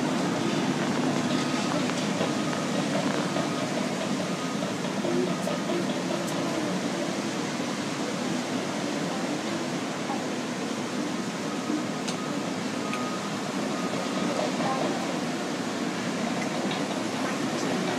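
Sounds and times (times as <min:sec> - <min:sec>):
constant wash of noise: 0:00.0 - 0:17.9
distant bulldozer diesel engine: 0:00.0 - 0:17.9.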